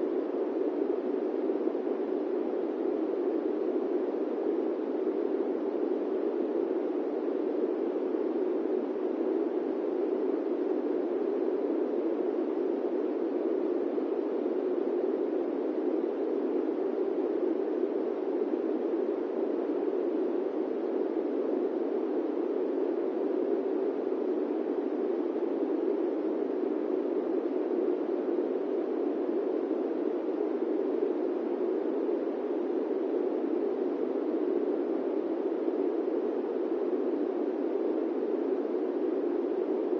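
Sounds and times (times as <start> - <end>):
airplane cabin white noise: 0.0 - 39.9.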